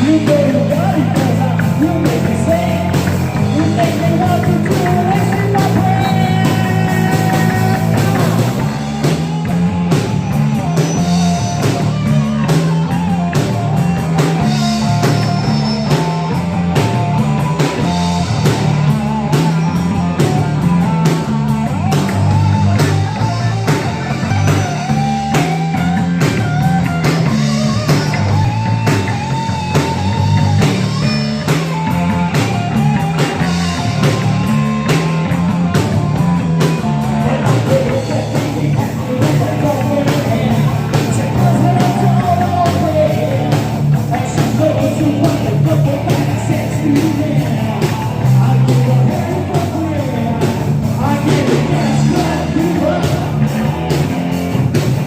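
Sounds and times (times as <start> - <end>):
bass riff: 0.0 - 55.0
drum kit beat: 0.0 - 55.0
electric guitar lead: 0.0 - 55.0.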